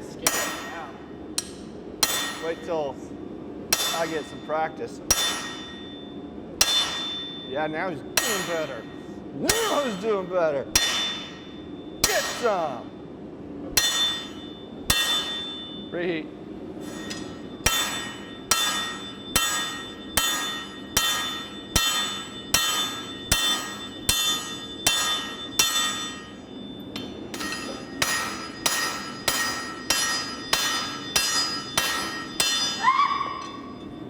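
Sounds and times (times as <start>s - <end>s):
hammer blows ringing on anvil: 0.2s - 2.8s, 3.7s - 4.5s, 5.1s - 12.8s, 13.7s - 15.9s, 16.8s - 33.7s.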